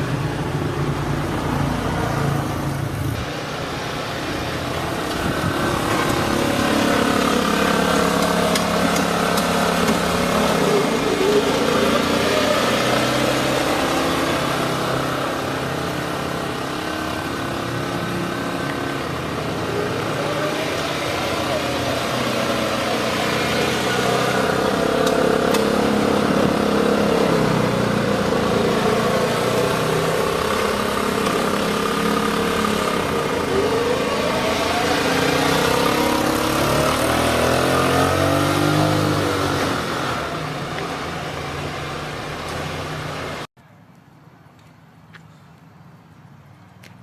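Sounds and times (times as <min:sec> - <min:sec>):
vehicle engine revving: 0:00.0 - 0:43.5.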